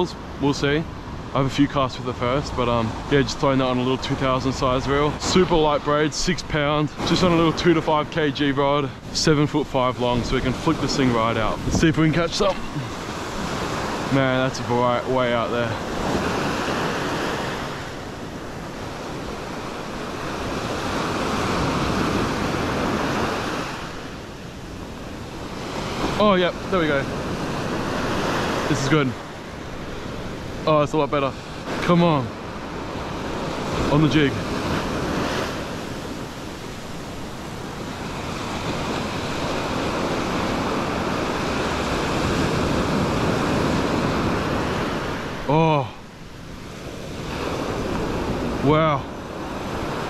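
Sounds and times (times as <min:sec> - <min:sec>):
surf washing up beach: 0:00.0 - 0:50.0.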